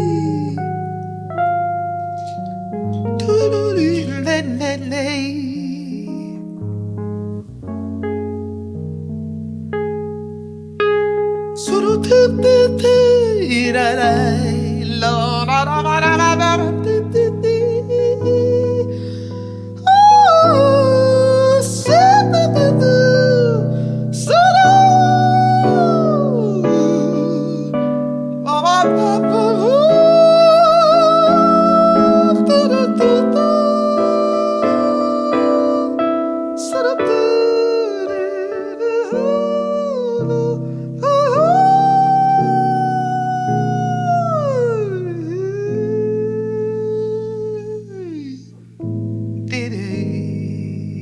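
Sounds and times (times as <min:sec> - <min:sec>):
sustained chord accompaniment: 0:00.0 - 0:51.0.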